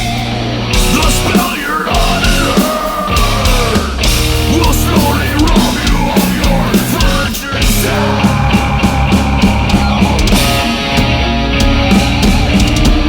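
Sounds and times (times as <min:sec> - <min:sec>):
bass guitar: 0:00.0 - 0:13.0
distorted electric guitar: 0:00.0 - 0:13.0
drums: 0:00.0 - 0:13.0.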